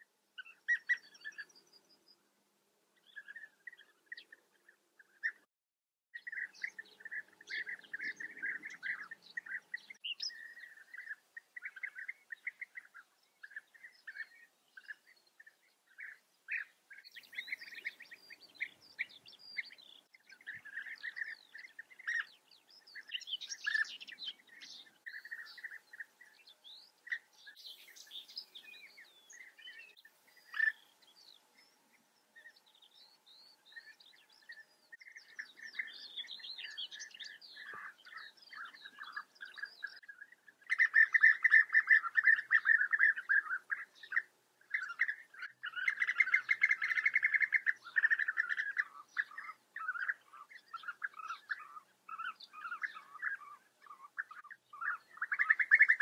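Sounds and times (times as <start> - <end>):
birds calling with trilled notes: 0.0 - 2.2, 3.0 - 5.5, 6.2 - 56.0.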